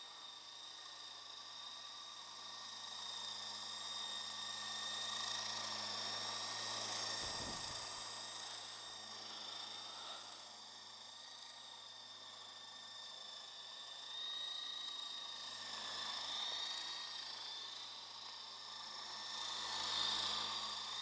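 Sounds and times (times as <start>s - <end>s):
rc helicopter rotors whirring: 0.0s - 21.0s.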